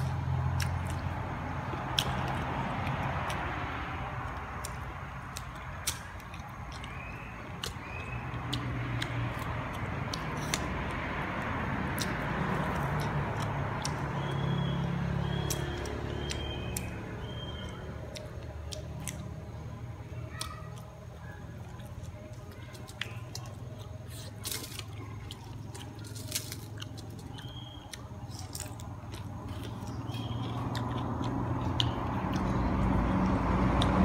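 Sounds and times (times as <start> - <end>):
crunchy chewing and biting: 0.0 - 34.0.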